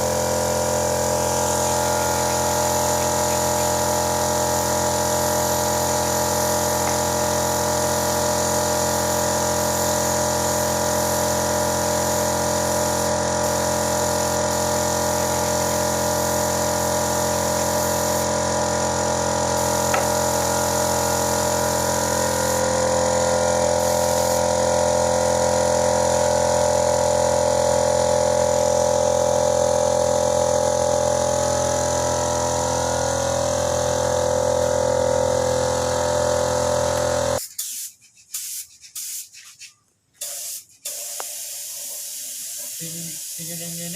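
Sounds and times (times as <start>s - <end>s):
electric air compressor humming: 0.0s - 37.9s, 40.2s - 43.9s.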